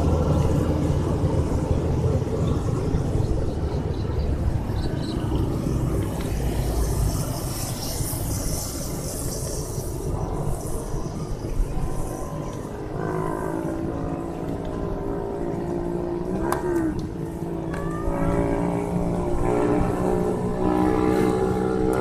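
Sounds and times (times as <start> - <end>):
engine humming: 0.0 - 22.0.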